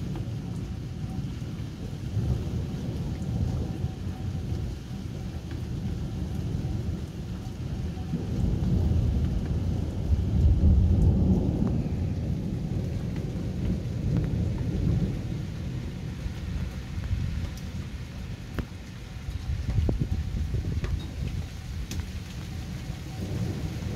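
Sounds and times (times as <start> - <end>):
rolling thunder: 0.0 - 23.9.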